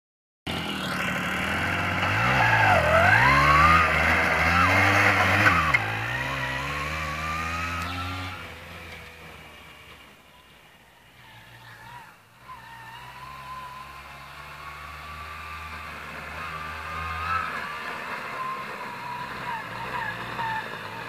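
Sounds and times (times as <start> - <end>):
moped engine revving: 0.5 - 21.0.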